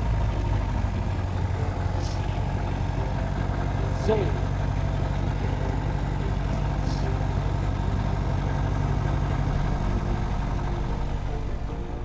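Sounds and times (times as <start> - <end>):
aircraft piston engine idling: 0.0 - 12.0.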